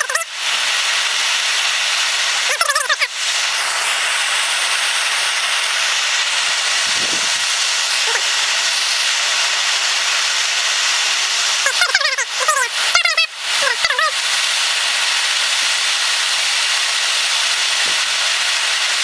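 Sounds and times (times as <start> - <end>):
gas torch hissing: 0.0 - 19.0.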